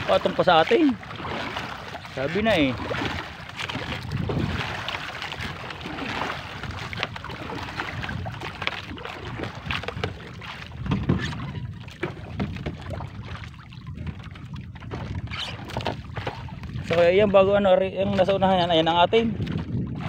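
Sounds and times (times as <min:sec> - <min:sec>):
net and boat knocks and rustles: 0:00.0 - 0:20.0
water slapping against a hull: 0:00.0 - 0:20.0
wind on the microphone: 0:00.0 - 0:20.0.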